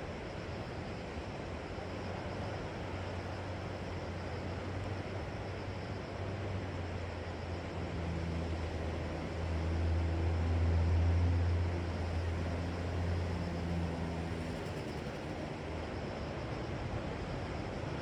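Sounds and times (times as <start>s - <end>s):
wind: 0.0s - 18.0s
engine droning: 1.8s - 17.4s.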